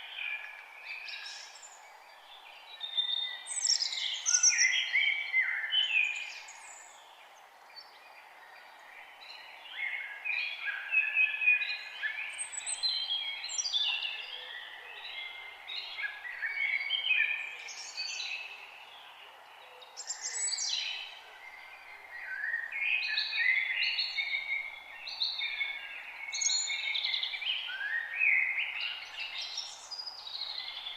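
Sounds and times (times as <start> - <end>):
faint background hiss: 0.0 - 30.9
songbirds singing: 0.0 - 30.9.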